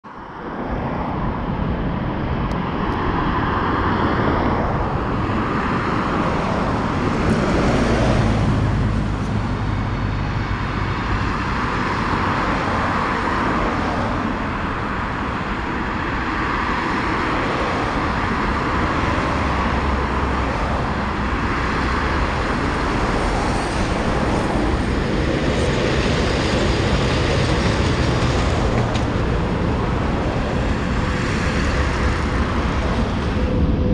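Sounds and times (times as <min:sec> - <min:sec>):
road traffic roar: 0:00.0 - 0:33.9.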